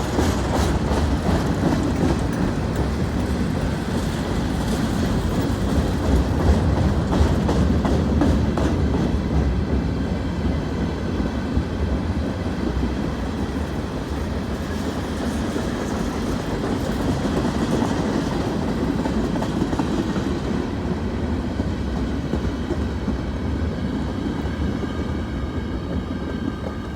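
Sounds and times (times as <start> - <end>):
clickety-clack over rail joints: 0.0 - 26.9
train wheels rumbling on rail: 0.0 - 26.9.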